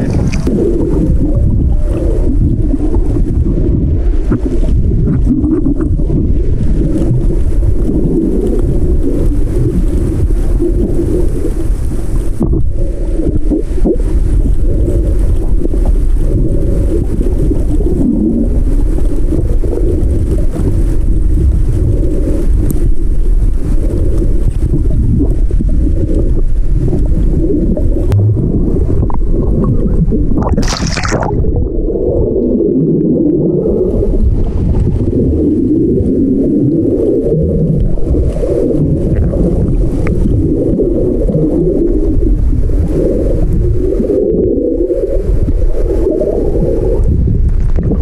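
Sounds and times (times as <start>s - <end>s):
underwater rumble of moving water: 0.0s - 48.0s.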